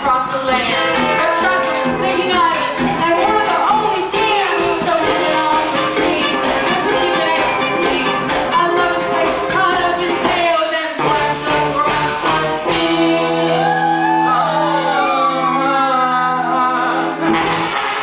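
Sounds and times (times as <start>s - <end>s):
woman singing: 0.0s - 17.3s
live band playing: 0.0s - 18.0s.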